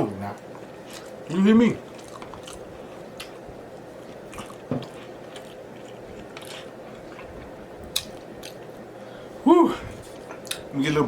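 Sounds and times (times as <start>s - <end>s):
person chewing and smacking: 0.4s - 8.7s, 10.0s - 10.7s.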